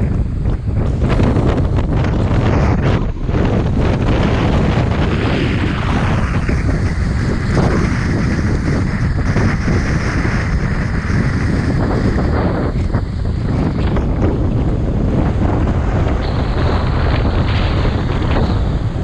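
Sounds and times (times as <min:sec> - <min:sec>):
wind and surf hissing: 0:00.0 - 0:19.0
wind buffeting microphone: 0:00.0 - 0:19.0.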